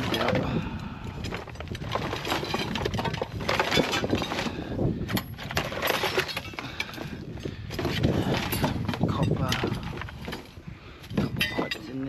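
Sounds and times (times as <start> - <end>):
cables rustling and dragging: 0.0 - 12.0
scrap metal and plastic clattering: 0.0 - 12.0.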